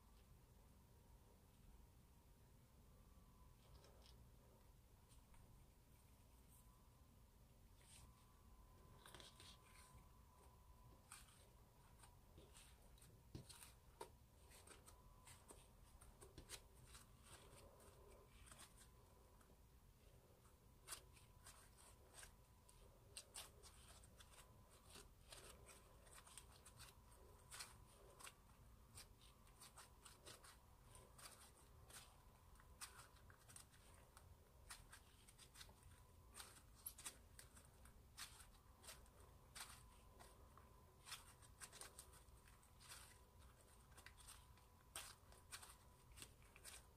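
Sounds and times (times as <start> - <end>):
faint steady tone: 0.0 - 46.9.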